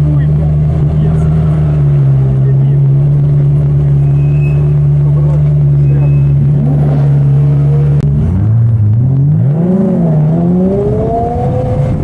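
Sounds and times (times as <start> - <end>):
sports car engine revving: 0.0 - 12.0.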